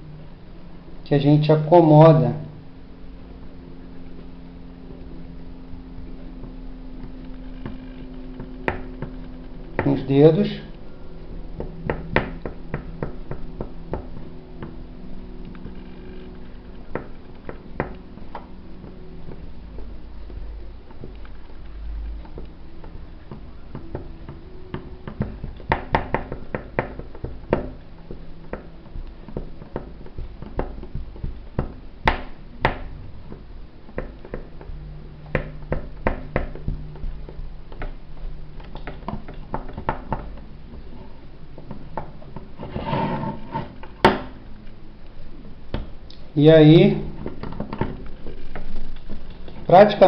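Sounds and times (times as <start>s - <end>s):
faint low hum: 0.0s - 50.0s.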